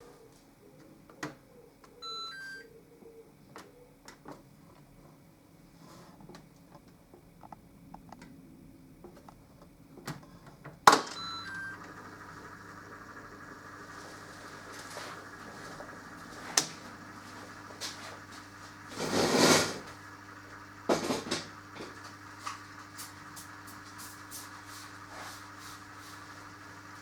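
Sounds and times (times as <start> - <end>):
washing machine humming: 3.4 - 27.0.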